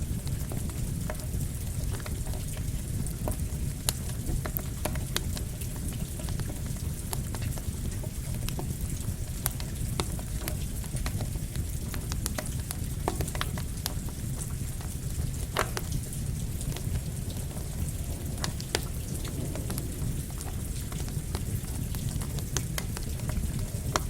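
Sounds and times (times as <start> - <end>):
campfire crackling and popping: 0.0 - 24.0
steady rain: 0.0 - 24.0.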